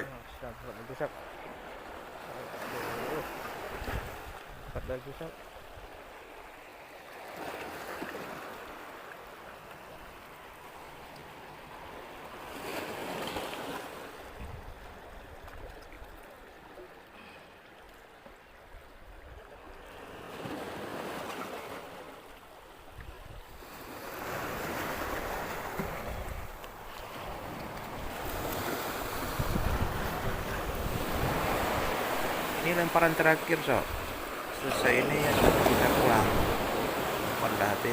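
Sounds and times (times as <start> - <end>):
sea waves breaking on a beach: 0.0 - 37.9.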